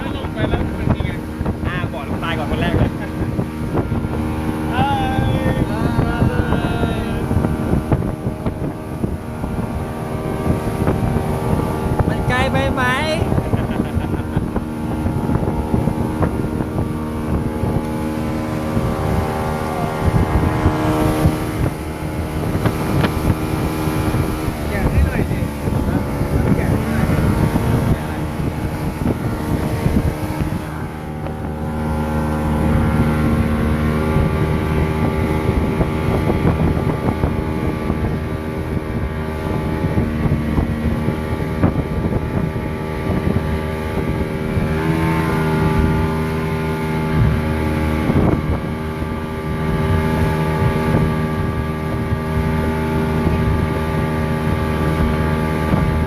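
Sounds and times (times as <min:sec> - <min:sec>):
motorboat engine running: 0:00.0 - 0:56.0
wind buffeting microphone: 0:00.0 - 0:56.0.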